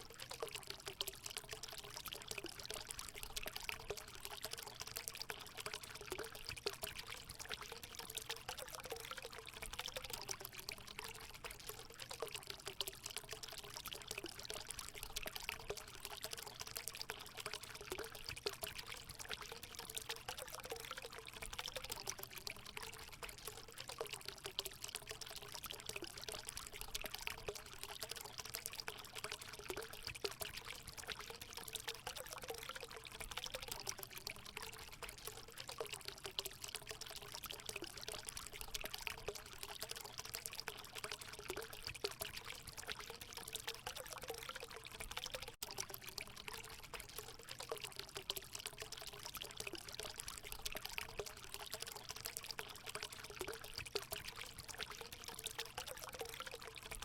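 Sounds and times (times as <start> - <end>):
water pouring into pool: 0.0 - 57.0.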